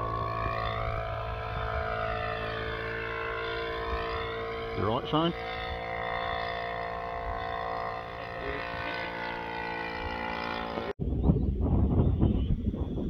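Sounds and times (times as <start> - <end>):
wind rumble on microphone: 0.0 - 8.7, 11.0 - 13.0
model plane engine running: 0.0 - 11.0.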